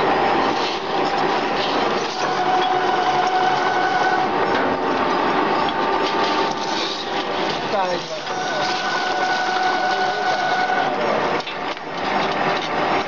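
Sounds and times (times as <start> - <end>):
machine whine: 0.0 - 13.0.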